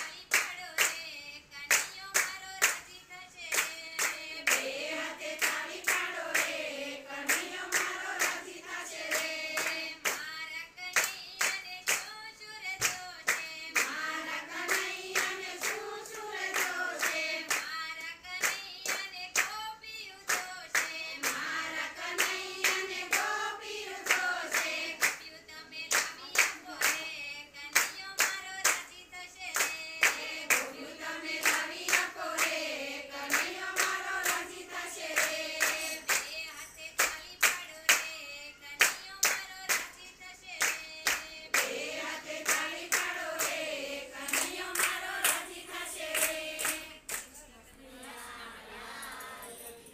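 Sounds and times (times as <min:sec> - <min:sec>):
rhythmic hand claps: 0:00.0 - 0:47.5
women singing devotional song: 0:00.0 - 0:49.9.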